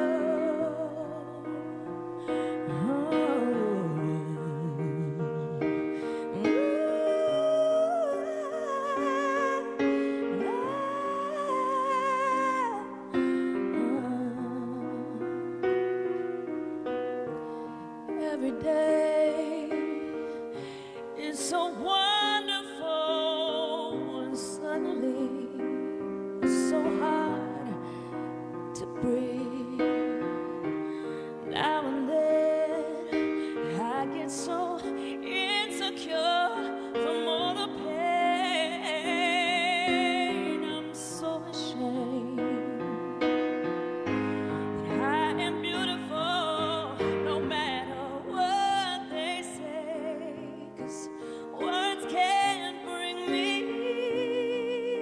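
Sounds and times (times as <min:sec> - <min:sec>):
soft piano accompaniment: 0:00.0 - 0:55.0
woman singing a ballad: 0:00.0 - 0:55.0.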